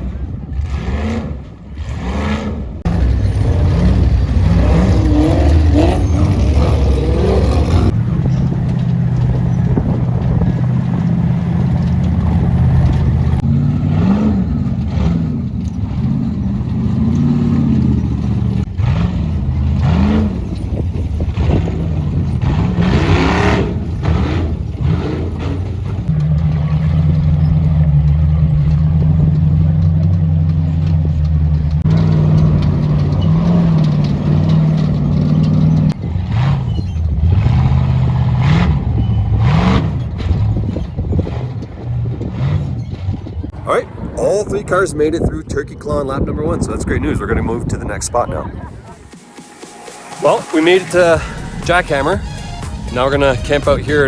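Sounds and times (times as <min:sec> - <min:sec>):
off-road car engines revving: 0:00.0 - 0:54.0.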